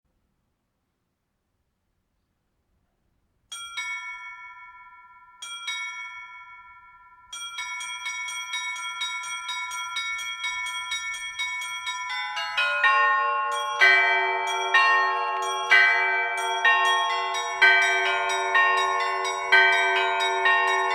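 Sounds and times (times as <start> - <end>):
small high-pitched bells chiming: 3.5 - 20.9.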